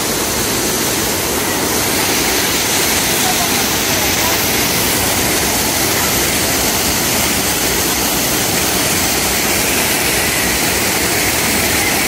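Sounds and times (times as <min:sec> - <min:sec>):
fountain water splashing on pavement: 0:00.0 - 0:12.0.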